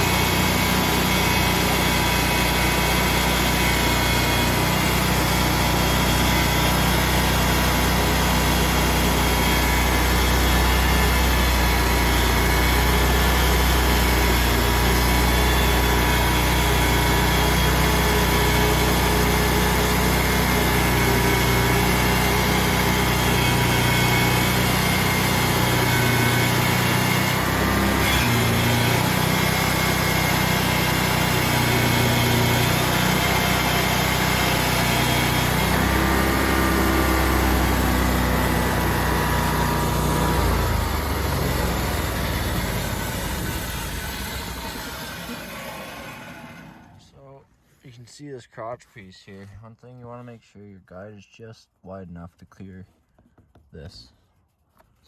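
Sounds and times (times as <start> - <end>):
band saw cutting log: 0.0 - 47.0
sawmill engine running: 0.0 - 47.1.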